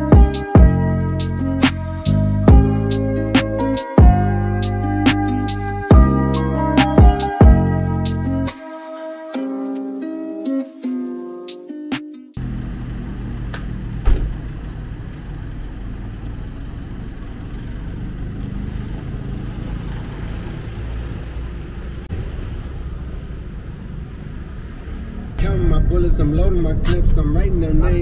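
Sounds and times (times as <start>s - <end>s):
vehicle engine and road rumble: 0.0s - 8.5s, 12.4s - 28.0s.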